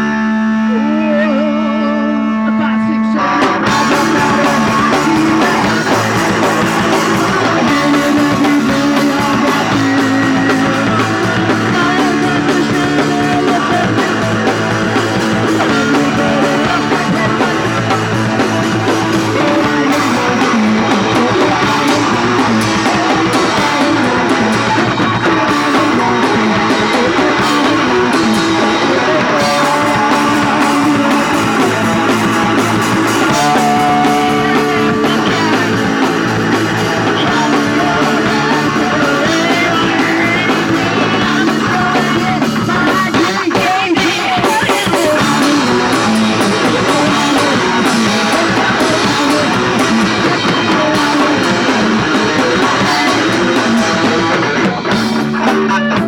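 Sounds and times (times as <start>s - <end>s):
bass guitar: 0.0s - 56.0s
distorted electric guitar: 0.0s - 56.0s
person singing: 0.0s - 56.0s
drum kit: 3.4s - 56.0s.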